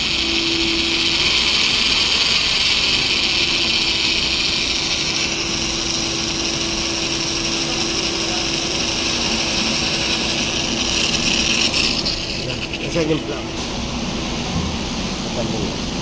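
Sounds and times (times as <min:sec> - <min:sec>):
electric drill boring metal: 0:00.0 - 0:14.2.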